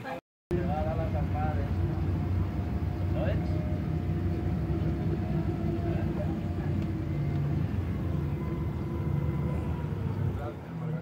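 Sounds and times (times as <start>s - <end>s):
boat engine droning: 0.5s - 11.0s.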